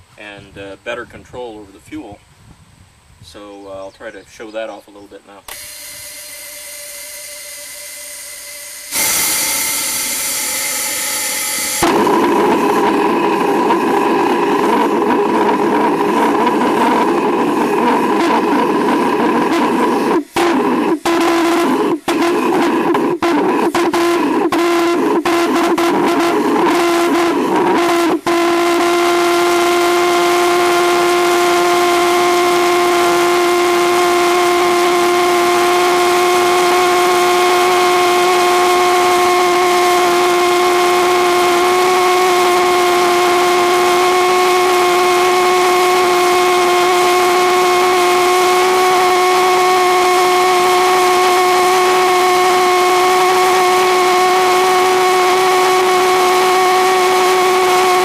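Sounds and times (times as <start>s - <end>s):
pulsejet engine drone: 5.5s - 58.0s.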